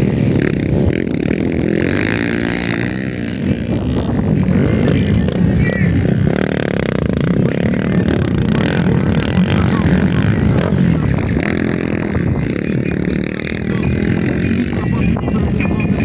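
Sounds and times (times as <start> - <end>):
motorcycle engines racing: 0.0 - 16.0.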